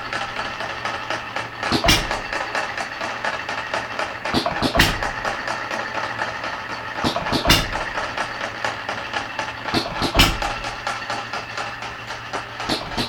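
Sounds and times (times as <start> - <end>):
flywheel clicking: 0.0 - 13.0.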